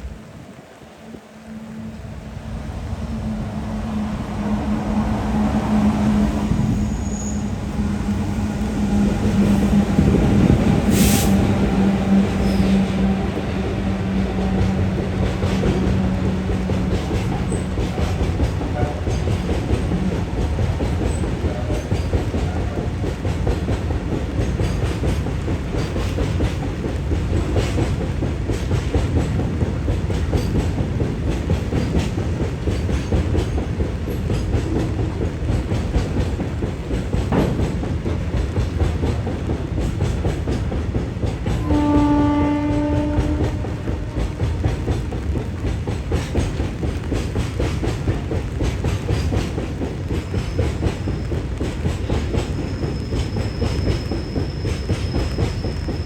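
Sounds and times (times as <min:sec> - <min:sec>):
train wheels clacking on rails: 0:02.7 - 0:56.0.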